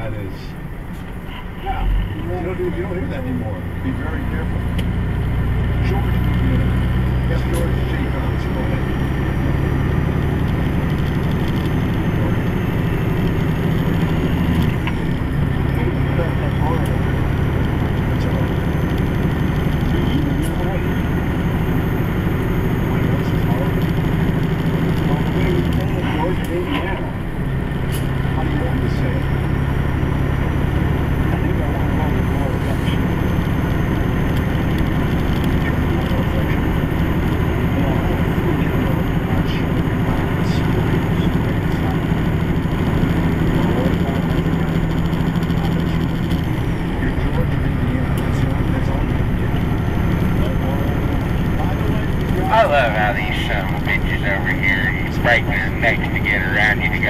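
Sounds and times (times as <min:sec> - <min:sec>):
road noise: 0:00.0 - 0:57.0
truck diesel engine drone: 0:00.0 - 0:57.0.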